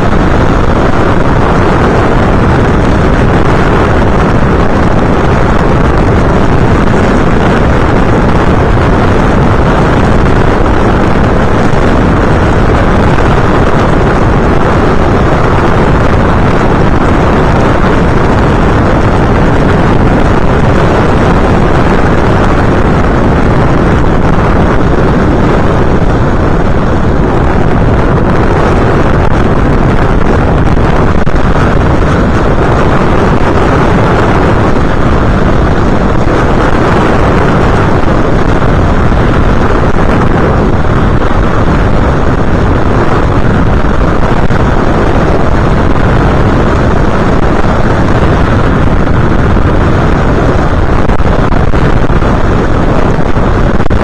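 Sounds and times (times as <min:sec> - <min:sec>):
wind rushing: 0:00.0 - 0:54.0.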